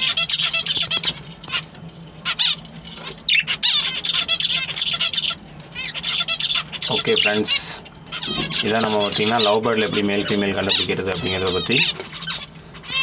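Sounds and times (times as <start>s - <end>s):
caged birds chirping and chattering: 0.0s - 13.0s.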